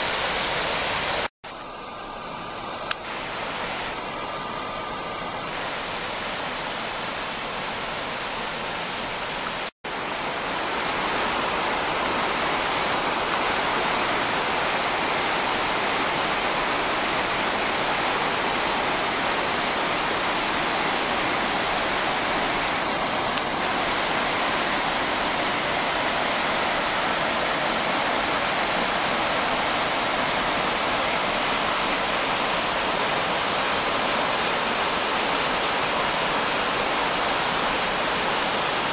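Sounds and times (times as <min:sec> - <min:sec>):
waterfall rushing over boulders: 0:00.0 - 0:38.9.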